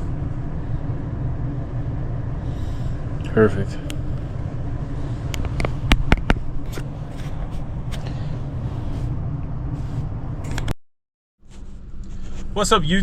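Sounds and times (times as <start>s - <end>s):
air conditioning humming: 0.0s - 10.7s, 11.5s - 13.0s.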